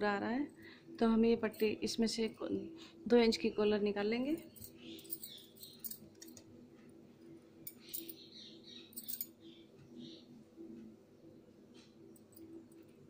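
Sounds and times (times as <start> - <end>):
low faint hum: 0.0 - 13.0.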